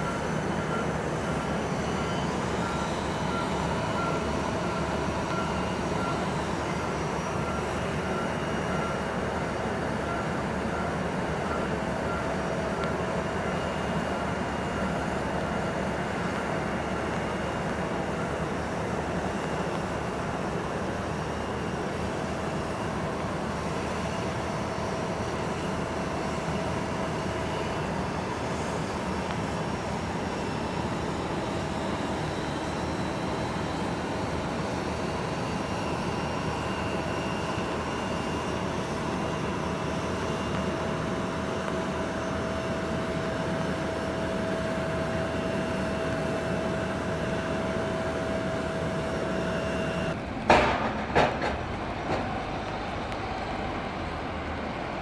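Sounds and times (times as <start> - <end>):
jet aircraft noise: 0.0 - 55.0
thin constant whine: 0.0 - 55.0.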